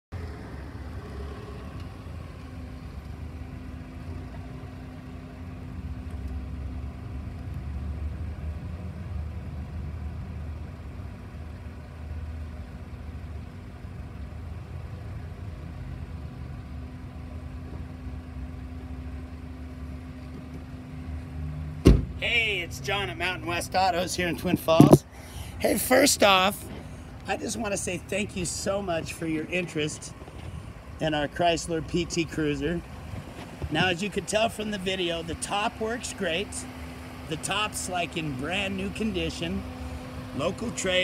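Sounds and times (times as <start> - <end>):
car engine idling: 0.1 - 41.0.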